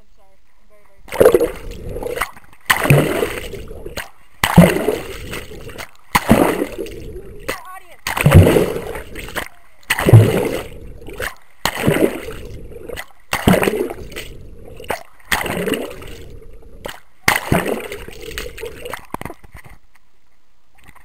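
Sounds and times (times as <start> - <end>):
water splashing underwater: 1.0 - 19.8.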